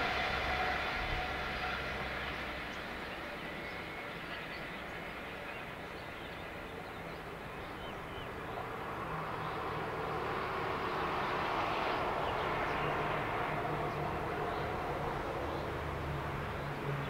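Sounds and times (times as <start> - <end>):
bus passing: 0.0 - 17.0.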